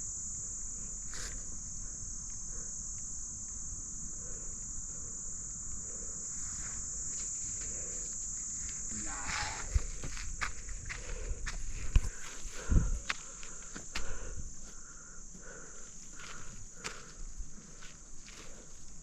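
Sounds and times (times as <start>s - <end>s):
high-pitched insect buzz: 0.0s - 19.0s.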